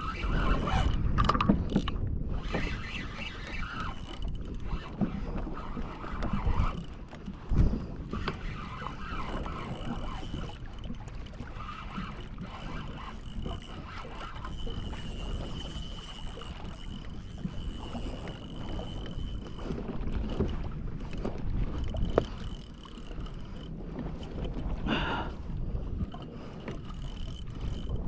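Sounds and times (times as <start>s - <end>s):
wind and water rumbling: 0.0s - 28.0s.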